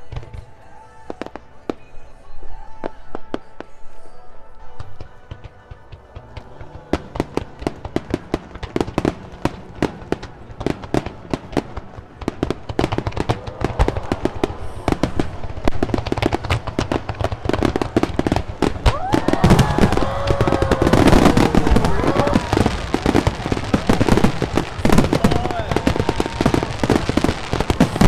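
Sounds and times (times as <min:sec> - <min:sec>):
fireworks bangs and crackles: 0:00.0 - 0:01.9, 0:04.8 - 0:28.0
faint music: 0:00.0 - 0:28.0.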